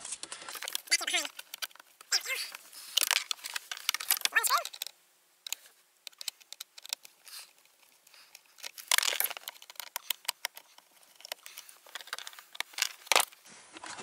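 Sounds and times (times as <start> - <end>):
plastic parts creaking: 0.0 - 14.0.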